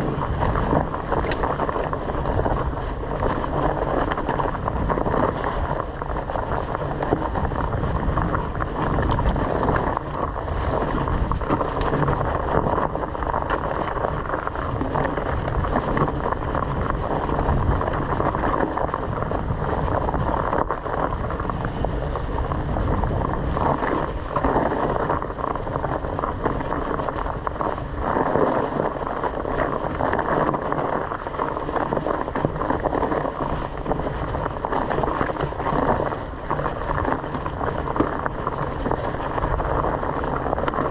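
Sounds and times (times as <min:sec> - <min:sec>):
bike rumbling on dirt trail: 0:00.0 - 0:40.9
wind buffeting microphone: 0:00.0 - 0:40.9.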